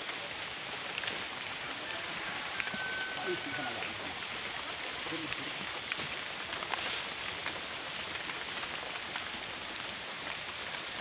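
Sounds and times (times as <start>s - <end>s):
drizzle on water and leaves: 0.0s - 11.0s.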